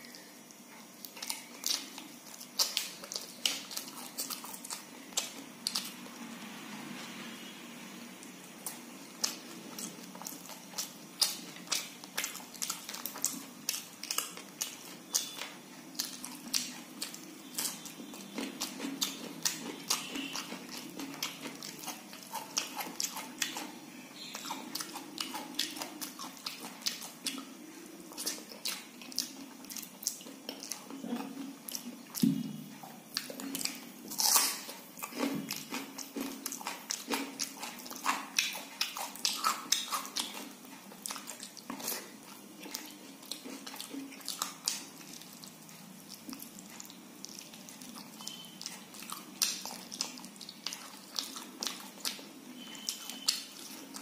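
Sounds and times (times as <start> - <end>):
wet chewing and lip smacking: 0.0 - 6.2, 8.2 - 54.0.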